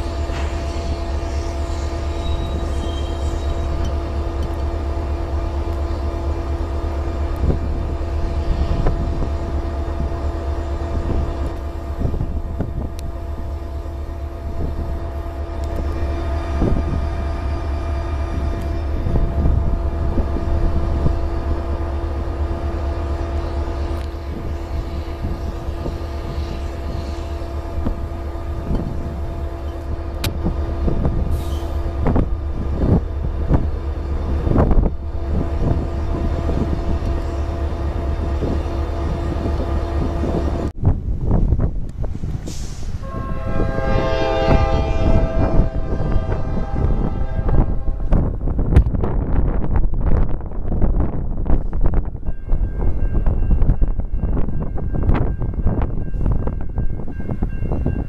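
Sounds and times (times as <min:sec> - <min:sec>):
freight train rumbling on rails: 0:00.0 - 0:58.0.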